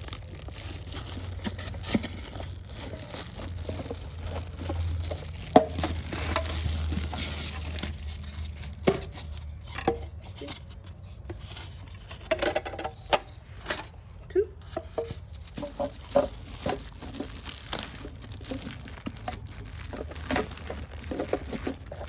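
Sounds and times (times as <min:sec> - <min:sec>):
packing material crinkling: 0:00.0 - 0:14.0, 0:14.9 - 0:22.0
clicks and knocks of handling: 0:00.9 - 0:14.0, 0:14.6 - 0:22.0.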